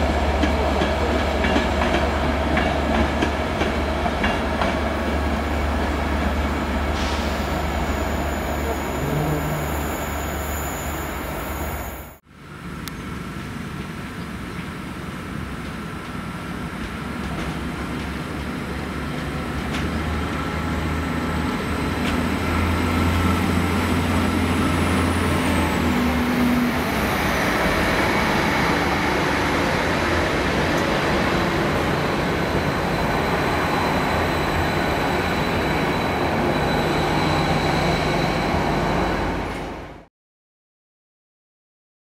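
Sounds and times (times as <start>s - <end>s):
train passing close by: 0.0s - 40.1s.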